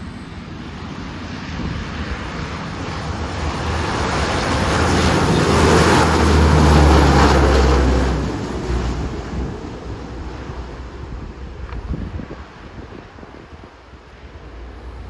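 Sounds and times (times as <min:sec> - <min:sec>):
turboprop aircraft drone and roar: 0:00.0 - 0:15.0.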